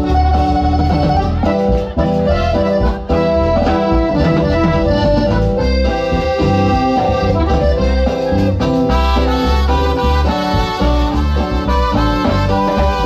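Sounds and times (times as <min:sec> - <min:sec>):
accordion dance music: 0:00.0 - 0:13.0
pulsing bass beat: 0:00.0 - 0:13.0.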